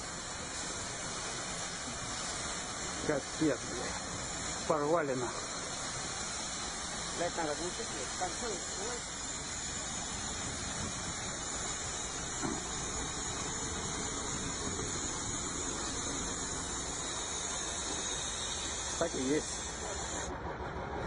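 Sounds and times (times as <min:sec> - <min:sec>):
high-pitched hiss of pressurized spray: 0:00.0 - 0:20.3.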